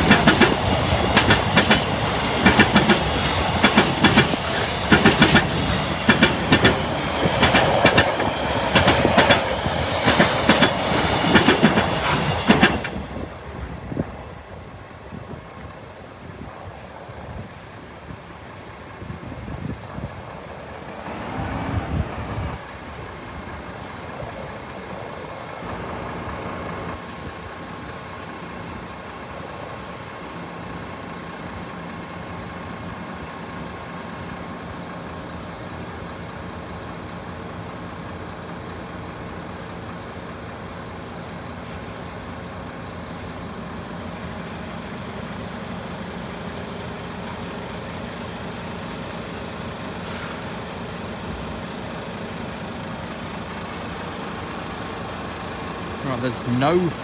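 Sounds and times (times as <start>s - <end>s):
traffic noise: 0.0s - 57.0s
vehicle engines idling: 0.0s - 57.0s.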